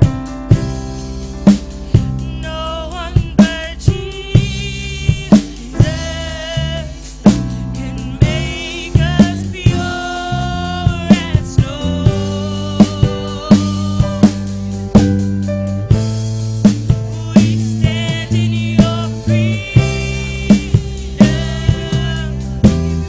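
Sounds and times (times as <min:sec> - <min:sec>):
bass notes: 0:00.0 - 0:23.0
drum kit beat: 0:00.0 - 0:23.0
person singing with vibrato: 0:01.8 - 0:14.6, 0:17.0 - 0:23.0.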